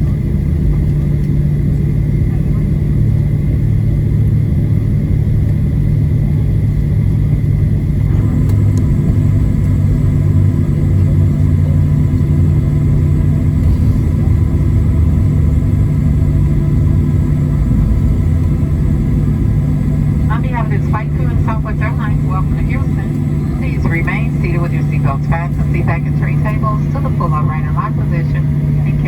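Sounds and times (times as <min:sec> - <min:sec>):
jet engines idling: 0:00.0 - 0:29.0.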